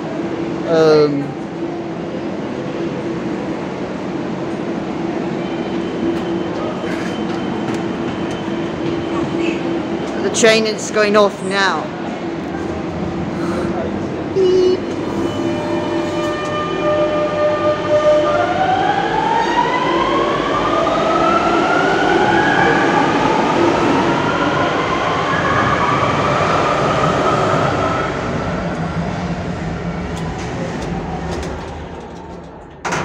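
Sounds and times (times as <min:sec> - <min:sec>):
electric train hum: 0:00.0 - 0:33.0.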